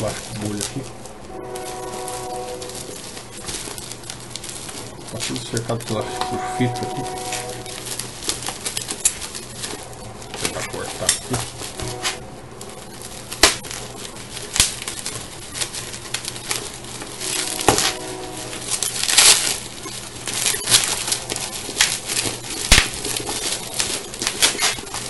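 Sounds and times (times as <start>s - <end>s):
bubble wrap crinkling: 0.0s - 25.0s.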